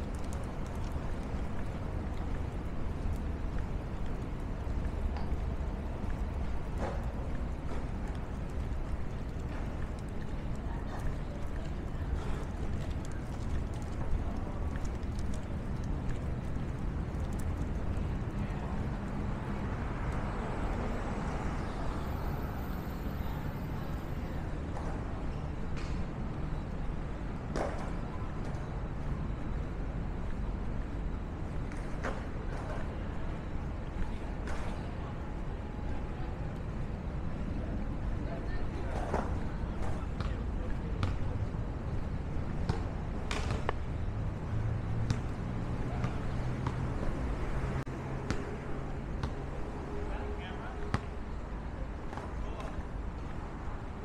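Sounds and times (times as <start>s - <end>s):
city street traffic: 0.0s - 54.0s.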